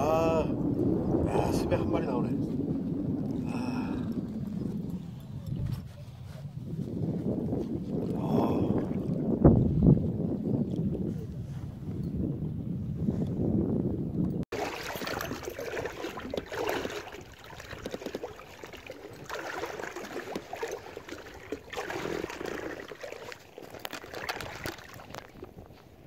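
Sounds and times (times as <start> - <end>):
water lapping against a hull: 0.0 - 12.1, 14.4 - 26.0.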